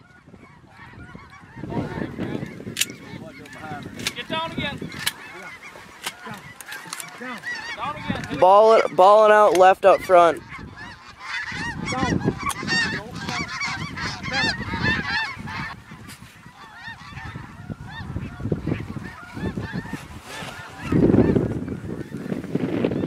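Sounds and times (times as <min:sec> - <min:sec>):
geese honking: 0:00.0 - 0:23.0
wind on microphone: 0:00.0 - 0:23.0.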